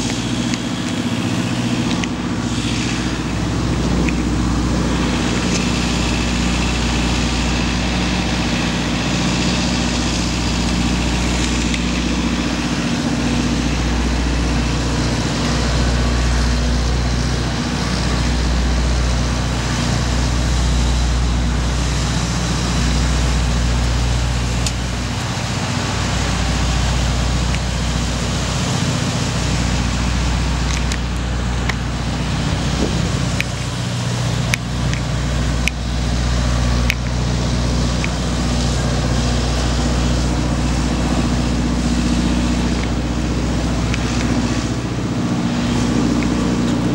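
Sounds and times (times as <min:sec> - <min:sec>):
engines droning: 0:00.0 - 0:46.9.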